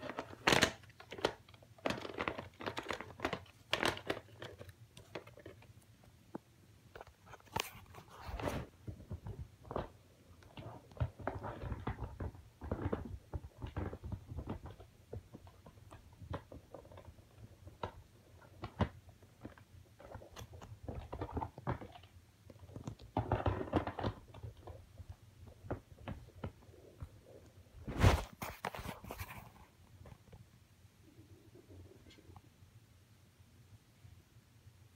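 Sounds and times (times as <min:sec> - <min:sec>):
rustling and crinkling: 0:00.0 - 0:32.5.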